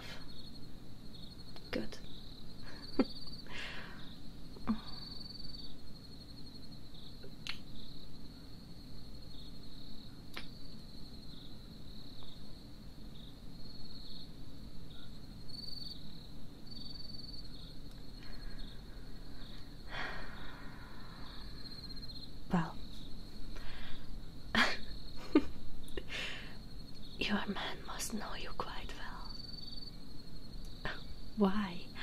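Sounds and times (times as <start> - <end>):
crickets chirping: 0.0 - 32.0
low background rumble: 0.0 - 32.0.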